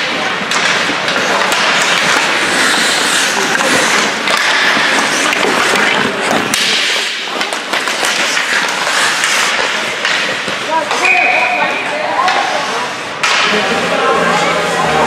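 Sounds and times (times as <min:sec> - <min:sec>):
hockey stick hitting puck: 0:00.0 - 0:12.6, 0:13.2 - 0:13.6
skates scraping ice: 0:00.0 - 0:15.0.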